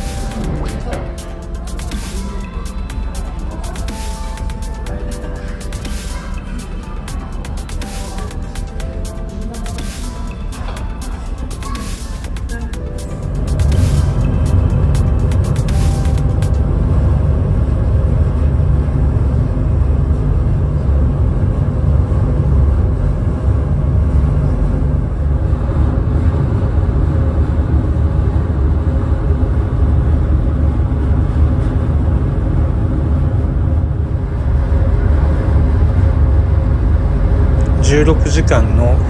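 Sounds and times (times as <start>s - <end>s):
ship engines rumbling: 0.0s - 39.0s.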